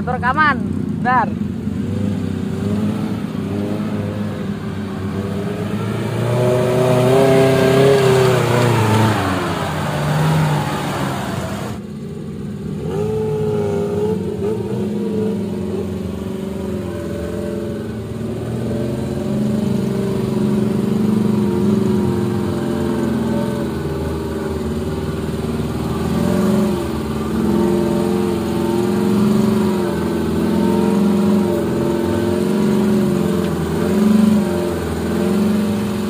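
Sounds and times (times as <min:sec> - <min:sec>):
engine revving under load: 0:00.0 - 0:11.9, 0:12.6 - 0:36.0.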